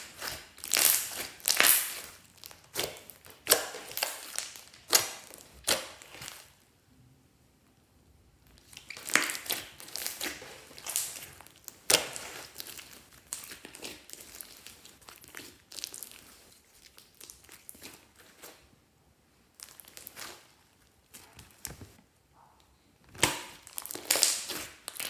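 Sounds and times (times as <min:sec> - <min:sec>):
slime squished by hand crackling: 0:00.0 - 0:06.6, 0:08.5 - 0:18.6, 0:19.6 - 0:22.0, 0:23.1 - 0:25.0.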